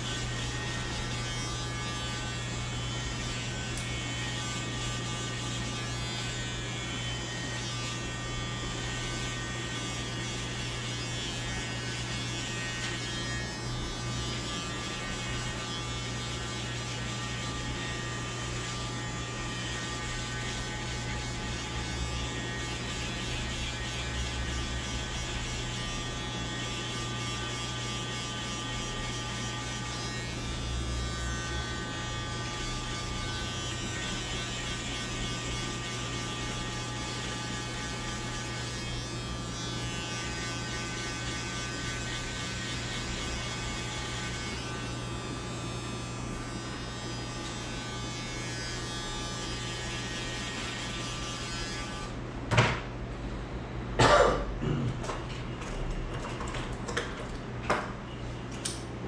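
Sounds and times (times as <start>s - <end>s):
electric hair clippers buzzing: 0.0s - 52.2s.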